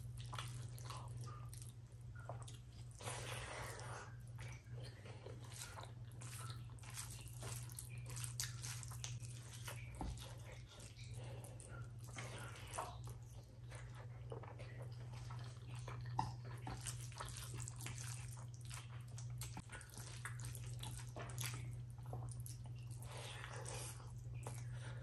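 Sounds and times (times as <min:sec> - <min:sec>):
mouth chewing and smacking: 0:00.0 - 0:25.0
steady low hum: 0:00.0 - 0:25.0
fingers squelching food: 0:00.1 - 0:13.9, 0:15.8 - 0:24.7.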